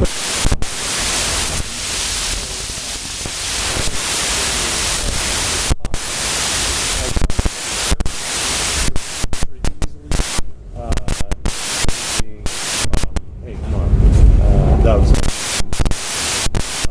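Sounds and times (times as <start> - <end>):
static hiss: 0.0 - 13.3, 15.1 - 16.9.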